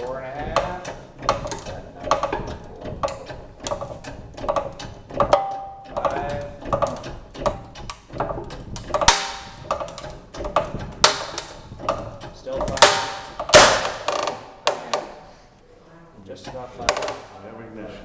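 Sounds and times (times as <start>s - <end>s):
hydraulic press hand pump knocking: 0.0s - 15.3s, 16.4s - 17.4s
timber cracking: 0.0s - 15.4s, 16.4s - 17.4s.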